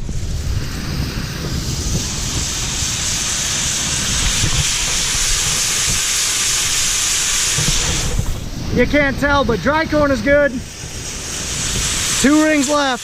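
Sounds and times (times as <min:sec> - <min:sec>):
grain pouring into bin hissing: 0:00.0 - 0:13.0
low irregular rumble: 0:00.0 - 0:13.0.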